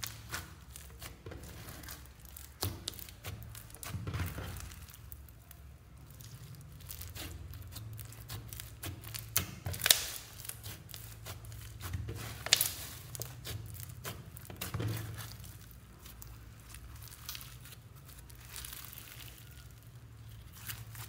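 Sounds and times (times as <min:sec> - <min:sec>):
foam slime crackling and popping: 0:00.0 - 0:21.0.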